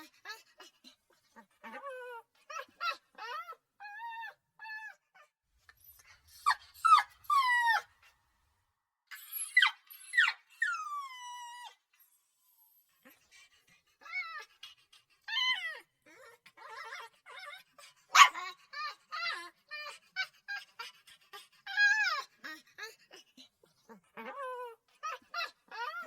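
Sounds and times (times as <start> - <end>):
puppy whimpering and yelping: 1.4 - 8.2, 9.1 - 12.9, 13.9 - 23.2, 23.9 - 26.0.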